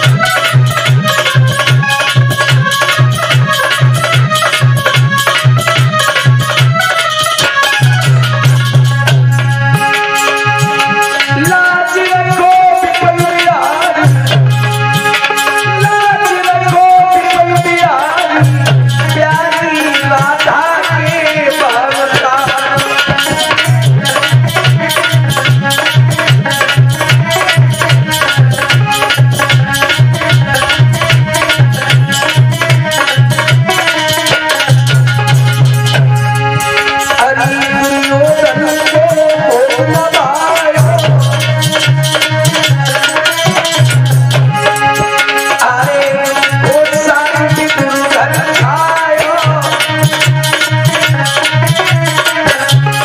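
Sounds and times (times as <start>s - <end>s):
hand drum rhythm: 0.0s - 53.0s
harmonium: 0.0s - 53.0s
man singing devotional song: 0.0s - 53.0s.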